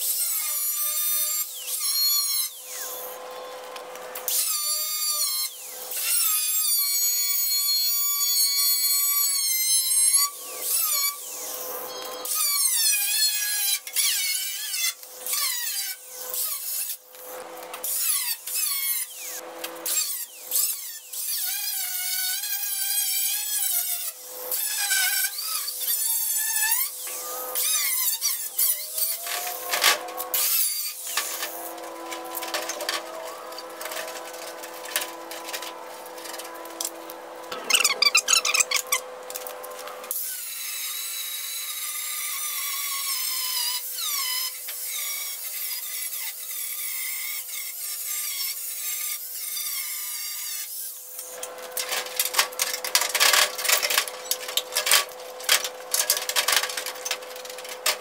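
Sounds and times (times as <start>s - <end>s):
angle grinder cutting steel: 0.0s - 58.0s.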